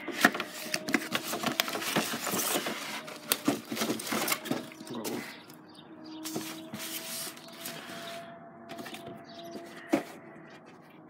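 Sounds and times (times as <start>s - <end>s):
cardboard box rustling and crinkling: 0.0s - 5.3s, 6.2s - 10.8s.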